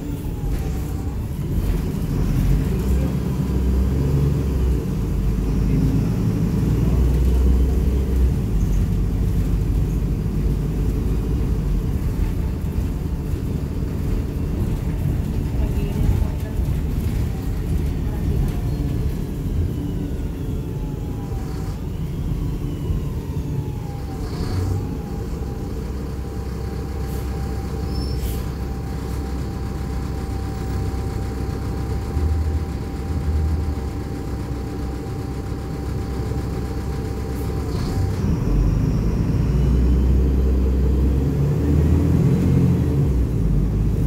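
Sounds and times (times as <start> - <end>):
bus diesel rumble: 0.0 - 44.0.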